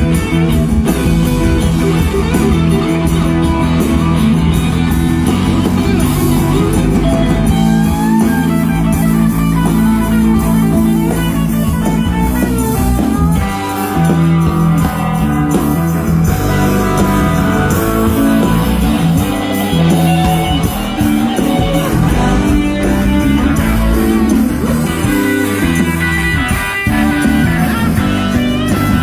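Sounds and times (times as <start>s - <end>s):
drum kit: 0.0s - 29.0s
electric bass: 0.0s - 29.0s
guitar: 0.0s - 29.0s.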